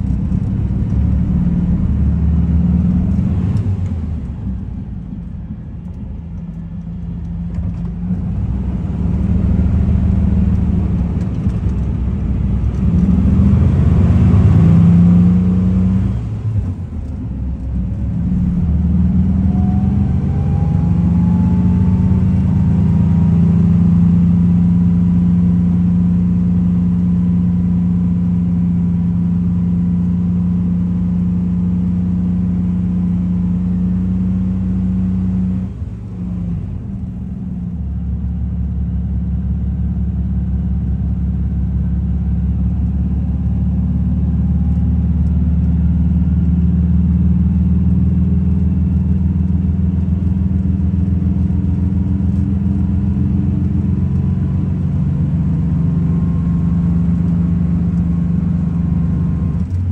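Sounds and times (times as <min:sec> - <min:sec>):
engine while driving: 0:00.0 - 0:59.9.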